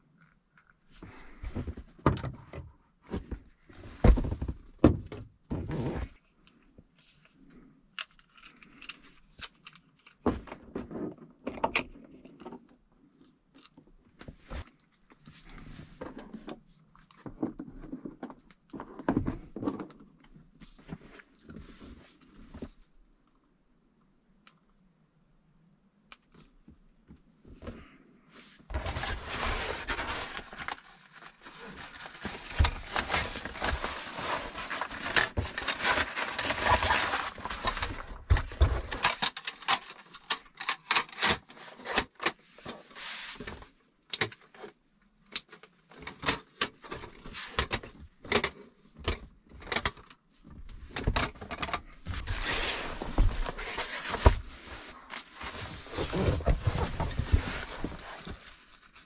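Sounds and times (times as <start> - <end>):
rustling and rummaging: 0.0 - 23.0, 26.4 - 59.0.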